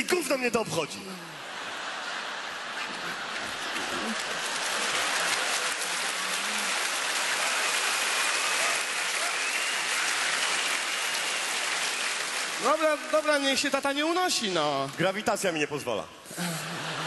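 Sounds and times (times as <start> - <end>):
large audience applauding: 1.4 - 15.1.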